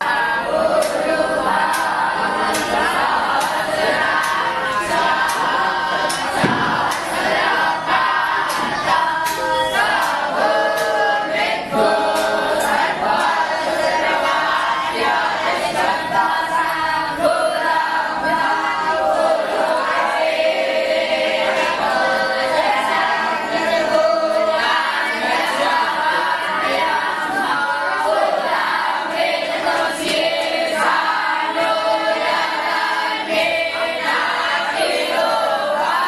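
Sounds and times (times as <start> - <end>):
voices chanting in unison: 0.0 - 36.0.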